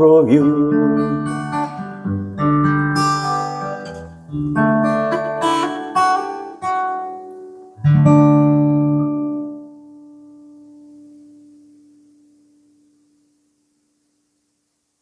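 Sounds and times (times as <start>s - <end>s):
acoustic guitar strummed chords: 0.0s - 13.6s.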